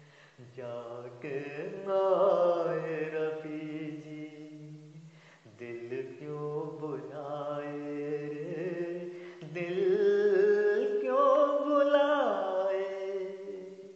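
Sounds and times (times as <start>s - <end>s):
man singing with vibrato: 0.0s - 13.9s.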